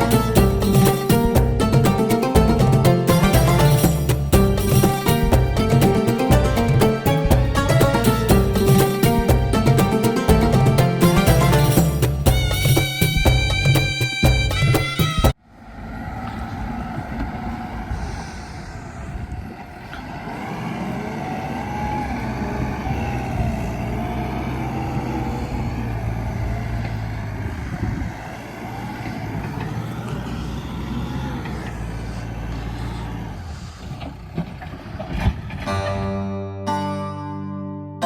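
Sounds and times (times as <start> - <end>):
excavator diesel engine whining: 0.0 - 38.0.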